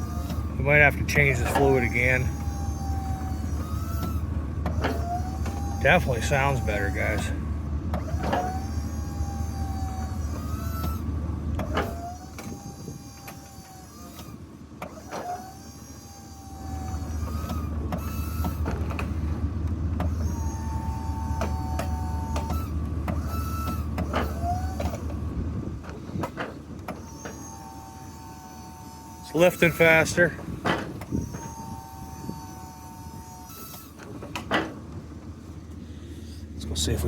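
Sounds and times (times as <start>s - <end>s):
hydraulic pump motor running: 0.0s - 37.0s.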